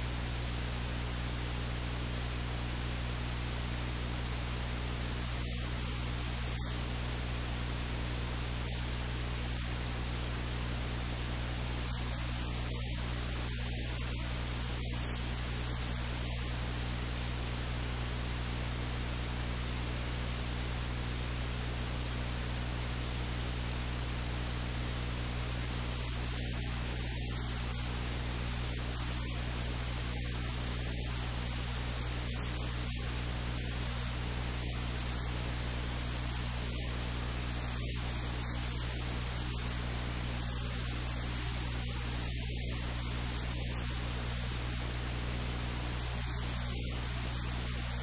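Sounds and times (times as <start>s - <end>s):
low electrical hum: 0.0s - 48.0s
recording hiss: 0.0s - 48.0s.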